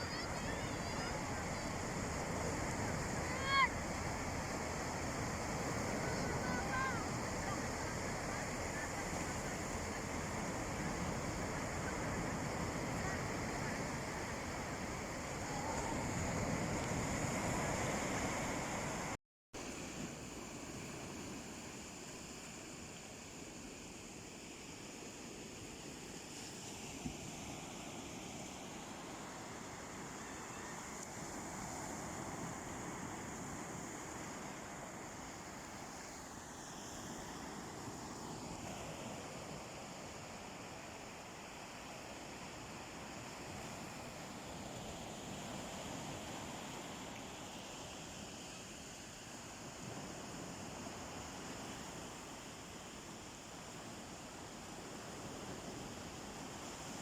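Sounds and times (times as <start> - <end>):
sea waves washing onto a beach: 0.0 - 57.0.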